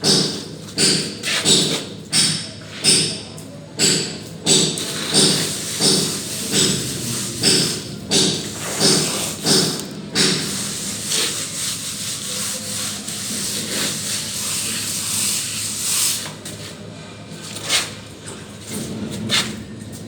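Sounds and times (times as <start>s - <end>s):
trowel scraping plaster: 0.0s - 3.0s, 4.5s - 20.0s.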